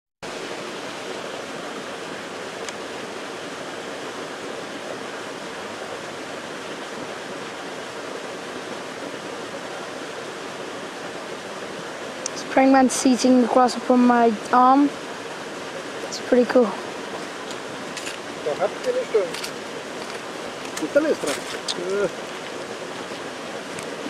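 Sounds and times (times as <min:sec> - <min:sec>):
steady rushing noise: 0:00.2 - 0:24.0.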